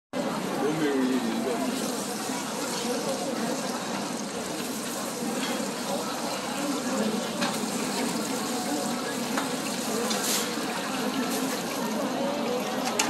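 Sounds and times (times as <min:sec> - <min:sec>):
pancakes sizzling in hot oil: 0:00.5 - 0:13.0.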